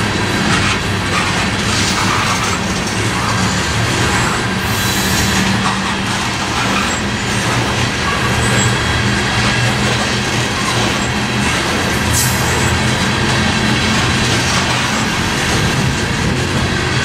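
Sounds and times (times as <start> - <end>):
train wheels running over rails: 0.0 - 17.0.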